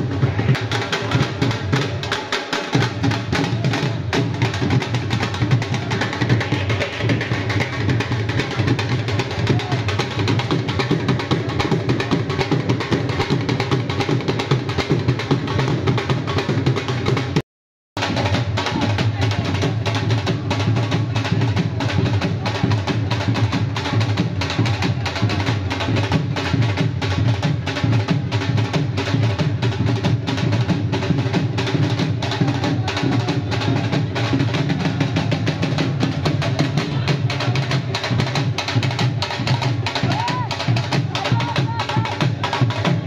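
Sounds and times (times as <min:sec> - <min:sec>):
drums beating a fast rhythm: 0:00.0 - 0:17.4, 0:18.0 - 0:43.0.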